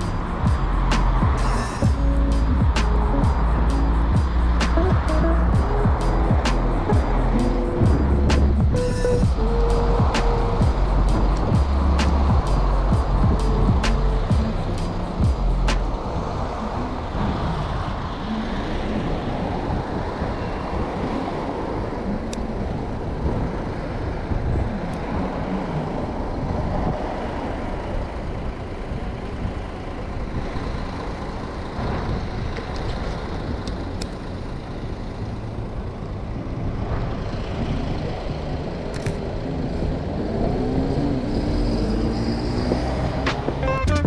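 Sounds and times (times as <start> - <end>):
buses and cars passing: 0.0 - 44.0.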